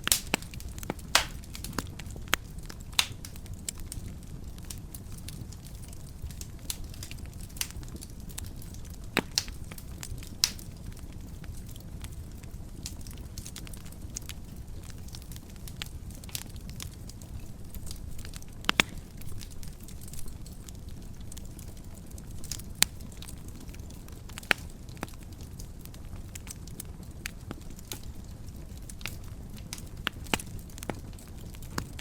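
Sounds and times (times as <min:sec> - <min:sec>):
wood fire burning in fireplace: 0:00.0 - 0:32.0.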